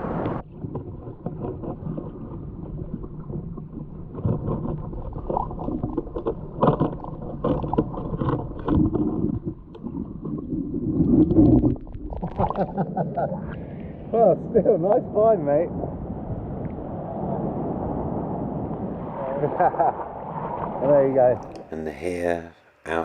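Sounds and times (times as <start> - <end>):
muffled water sloshing: 0.0 - 22.1.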